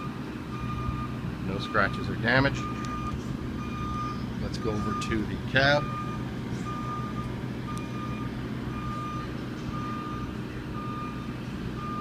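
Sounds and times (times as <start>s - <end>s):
backup alarm beeping: 0.0s - 12.0s
engine humming: 0.0s - 12.0s.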